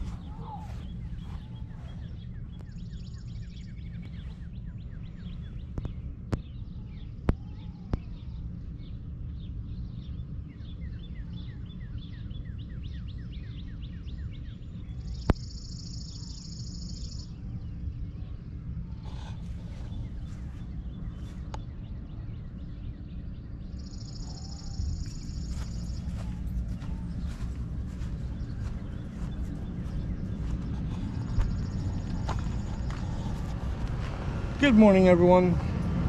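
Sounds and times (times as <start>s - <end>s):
low rumble: 0.0s - 15.6s, 16.2s - 36.0s
birds chirping: 0.0s - 36.0s.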